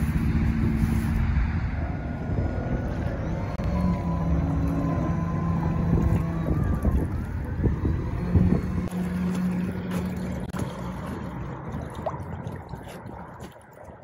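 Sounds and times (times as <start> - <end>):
electric boat motor humming: 0.0 - 11.8
water noise: 0.0 - 14.0
wind: 0.0 - 14.0.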